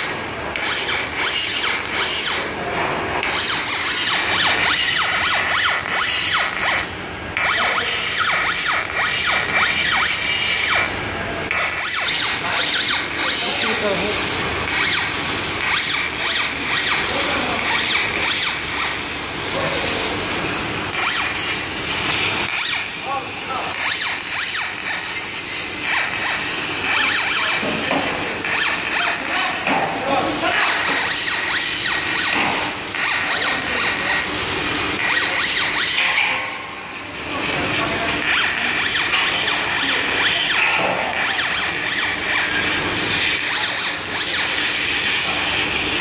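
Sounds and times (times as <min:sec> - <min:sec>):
stepper motors whining: 0:00.0 - 0:36.6, 0:37.4 - 0:46.0
laser cutter hiss: 0:00.0 - 0:46.0.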